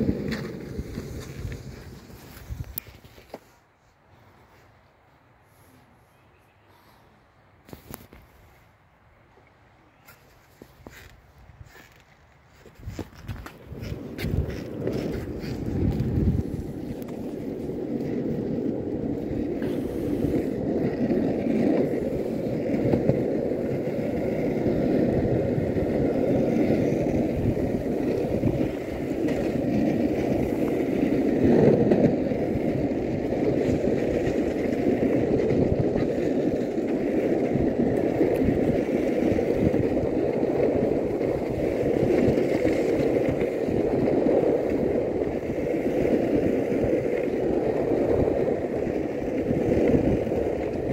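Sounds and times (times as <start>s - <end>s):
skateboard wheels rolling on asphalt: 0.0s - 50.9s.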